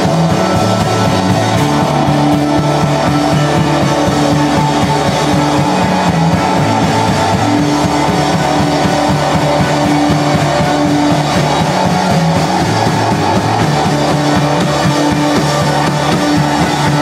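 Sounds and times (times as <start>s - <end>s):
drum kit steady beat: 0.0s - 17.0s
rock band playing live: 0.0s - 17.0s.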